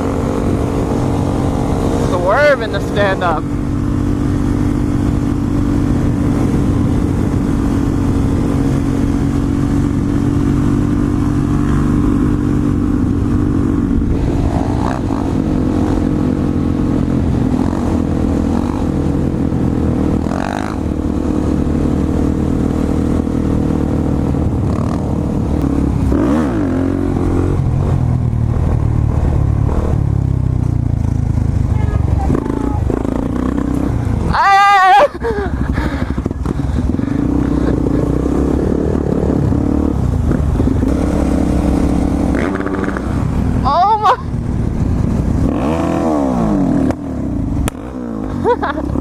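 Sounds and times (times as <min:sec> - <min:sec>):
dirt bike engine running: 0:00.0 - 0:49.0.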